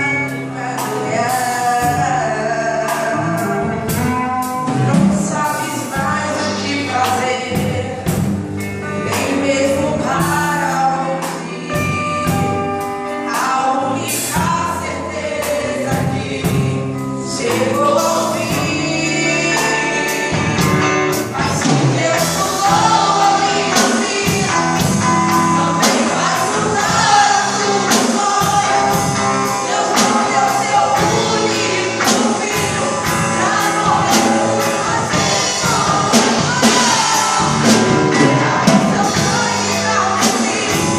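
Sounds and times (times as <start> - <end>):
band playing steady beat: 0.0 - 40.9
people singing gospel music: 0.0 - 40.9.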